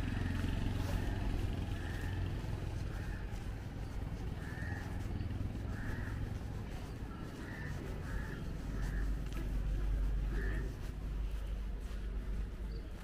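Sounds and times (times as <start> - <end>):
bird calling: 0.0 - 11.6
steady low rumble: 0.0 - 13.0.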